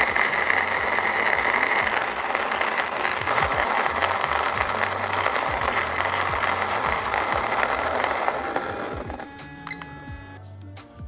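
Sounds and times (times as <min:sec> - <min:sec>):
electric coffee grinder running: 0:00.0 - 0:10.4.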